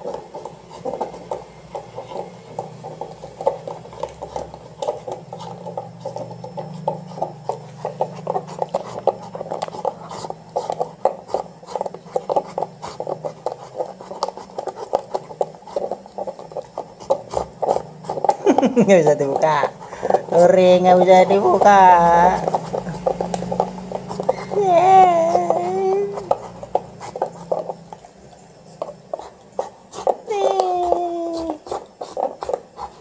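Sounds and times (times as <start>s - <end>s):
dog chewing plastic bottle: 0.0s - 33.0s.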